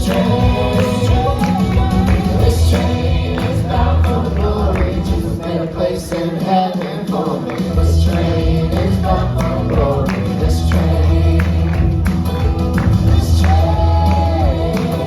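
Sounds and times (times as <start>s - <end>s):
bass line: 0.0s - 6.0s, 7.6s - 15.0s
group singing gospel song: 0.0s - 15.0s
percussion: 0.0s - 15.0s.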